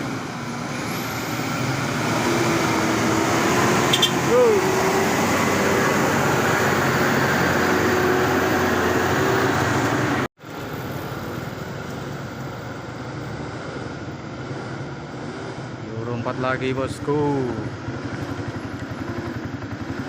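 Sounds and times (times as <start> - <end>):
heavy truck engine under load: 0.0 - 16.1
road noise: 0.0 - 20.0.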